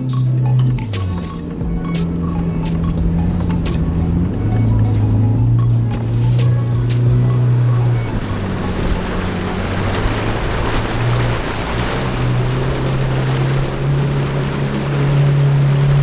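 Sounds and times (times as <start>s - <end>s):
low drone shifting pitch: 0.0s - 16.0s
water splashing around car wheels: 0.0s - 16.0s.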